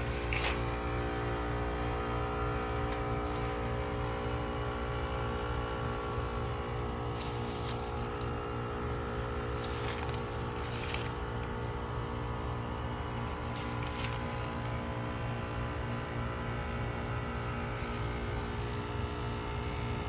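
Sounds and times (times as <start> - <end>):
heat pump compressor hum: 0.0 - 20.0.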